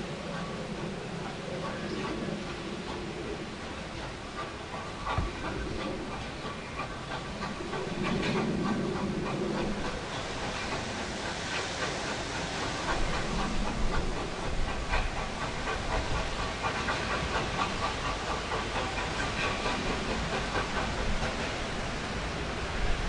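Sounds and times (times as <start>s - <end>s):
carriages rattling on rails: 0.0s - 23.0s
steam hissing: 0.0s - 23.0s.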